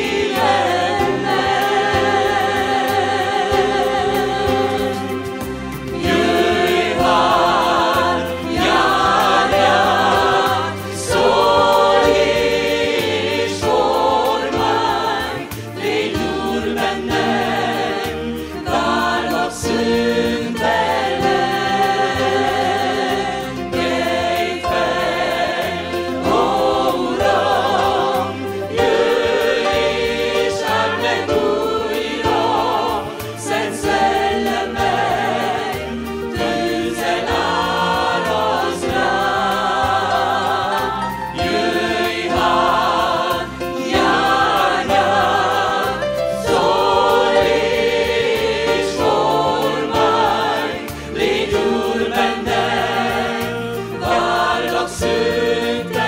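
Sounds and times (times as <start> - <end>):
choir and congregation singing: 0.0 - 56.0
keyboard: 0.0 - 56.0.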